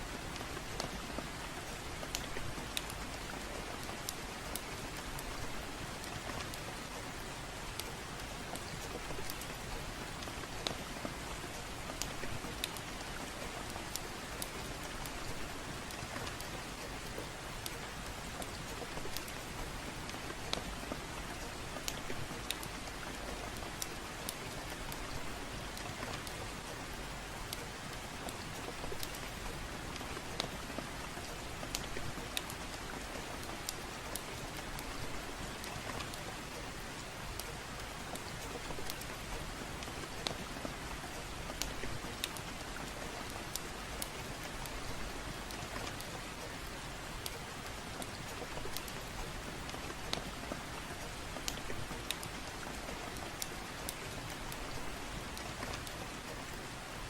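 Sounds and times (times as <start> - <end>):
gentle rain hiss: 0.0 - 57.0.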